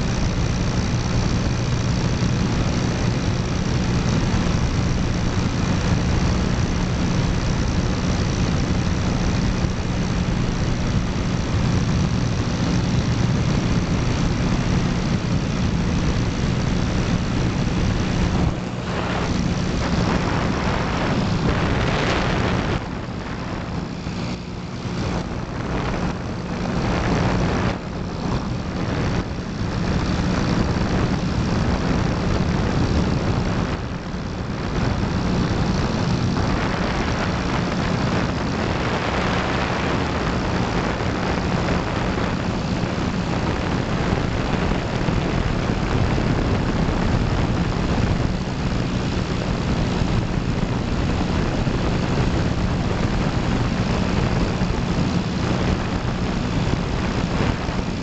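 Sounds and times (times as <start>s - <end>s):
propeller aircraft engine drone: 0.0s - 58.0s
rushing noise: 0.0s - 58.0s.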